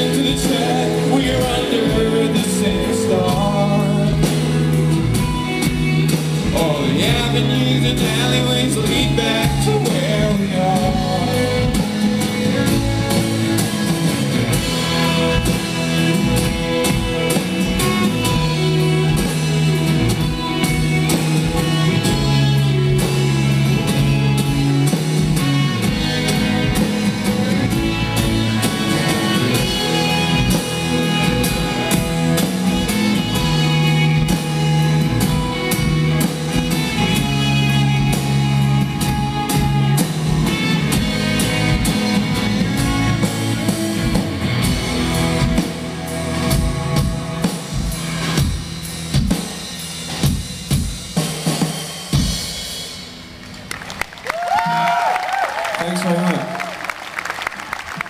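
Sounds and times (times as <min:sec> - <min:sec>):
drum kit: 0:00.0 - 0:56.5
electric guitars: 0:00.0 - 0:58.0.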